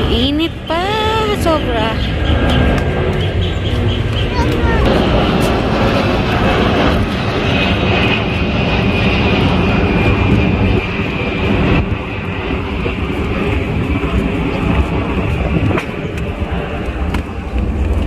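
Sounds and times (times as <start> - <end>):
high jet whine: 0.0 - 18.0
jet engine rumble: 0.0 - 18.0.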